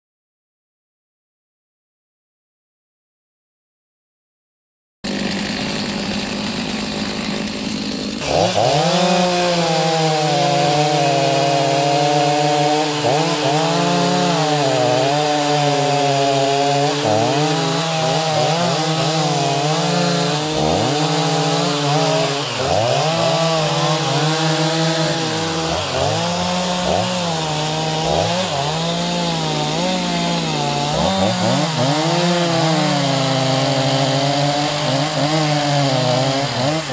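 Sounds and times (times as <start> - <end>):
chainsaws cutting logs: 5.0 - 36.9.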